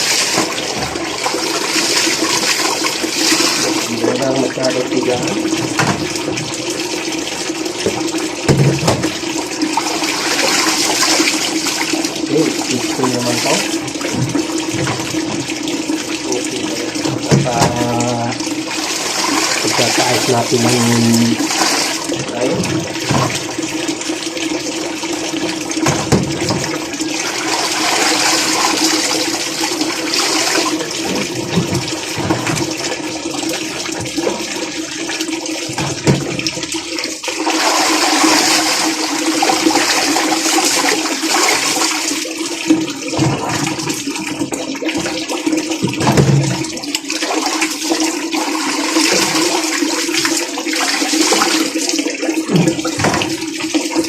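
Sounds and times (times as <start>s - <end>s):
washing machine motor hum: 0.0s - 54.0s
water churning and sloshing: 0.0s - 54.0s.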